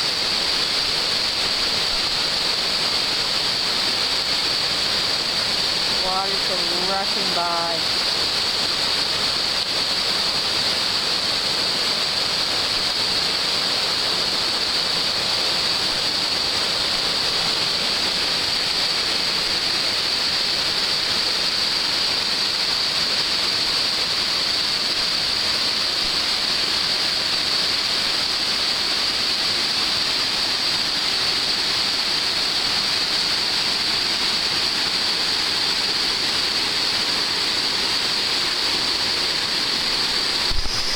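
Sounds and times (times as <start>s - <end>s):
white water rushing over rocks: 0.0s - 40.9s.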